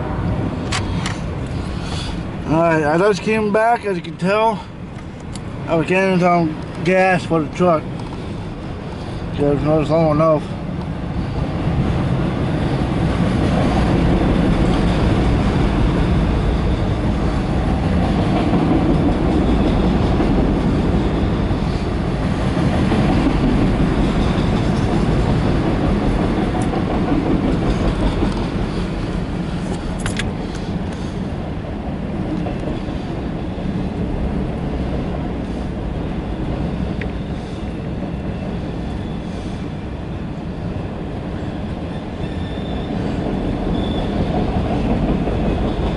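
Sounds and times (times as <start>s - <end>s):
freight train rumbling by: 0.0s - 45.9s.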